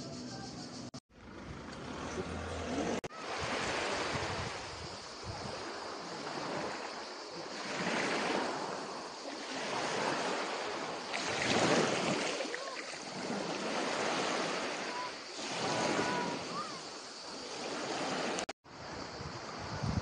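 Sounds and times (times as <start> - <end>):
sea surf washing on beach: 3.1 - 20.0.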